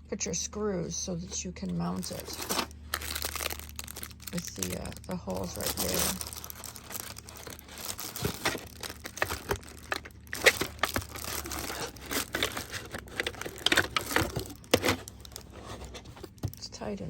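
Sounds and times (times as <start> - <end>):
packaging crinkling and rustling: 1.8 - 16.7.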